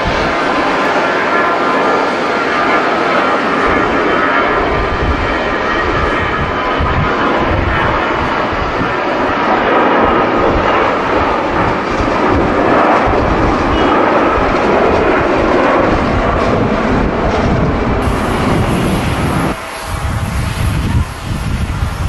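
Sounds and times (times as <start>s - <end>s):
jet engines at takeoff thrust: 0.0s - 22.0s
wind buffeting microphone: 0.0s - 22.0s.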